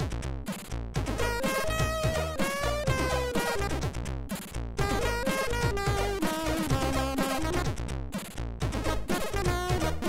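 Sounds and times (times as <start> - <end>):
chiptune music: 1.0 - 10.0.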